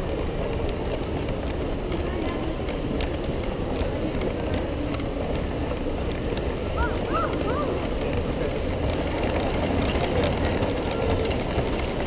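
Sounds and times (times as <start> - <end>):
model train rumbling on track: 0.0 - 12.0
murmur of voices: 0.0 - 12.0
wheels clicking on rail: 0.0 - 12.0.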